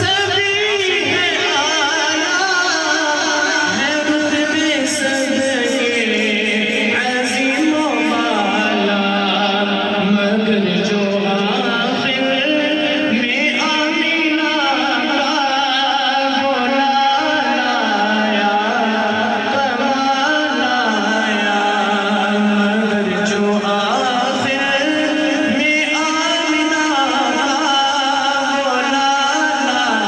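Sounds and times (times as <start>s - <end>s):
man singing devotional chant: 0.0s - 30.0s.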